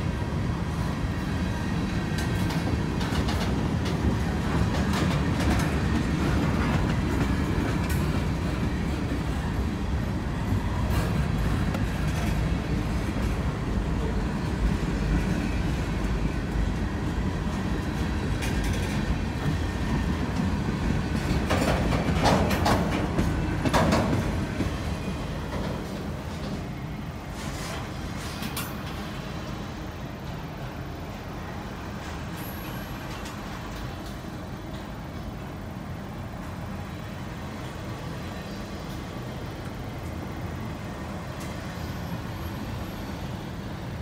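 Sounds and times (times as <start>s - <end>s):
freight train wheels rumbling: 0.0s - 44.0s
clickety-clack over rail joints: 0.7s - 44.0s.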